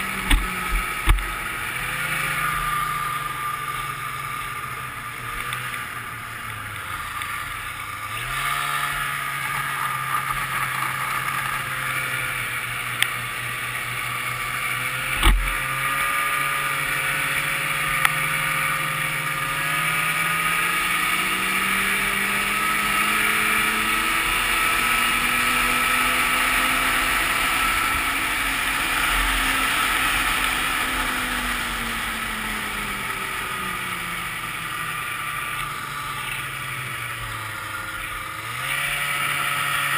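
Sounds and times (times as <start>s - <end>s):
snowmobile engine running: 0.0s - 39.9s
wind and track noise: 0.0s - 39.9s.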